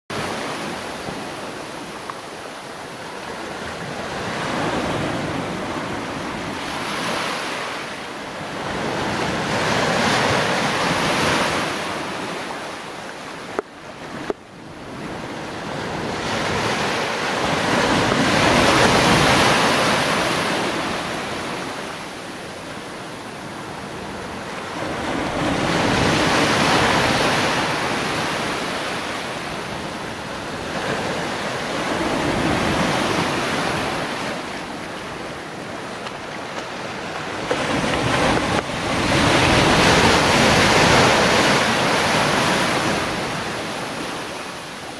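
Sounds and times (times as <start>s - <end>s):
sea surf washing around rocks: 0.2s - 22.1s, 23.2s - 44.9s.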